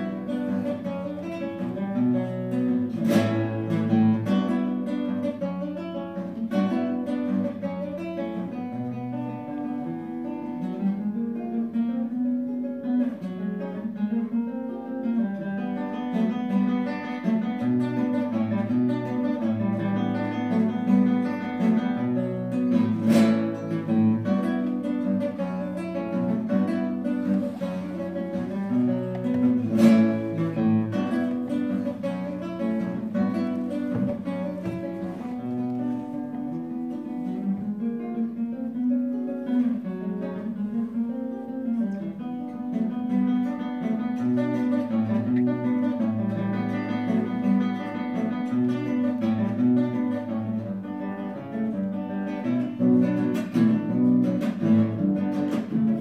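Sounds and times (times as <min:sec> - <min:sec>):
classical guitar fingerpicking: 0:00.0 - 0:56.0.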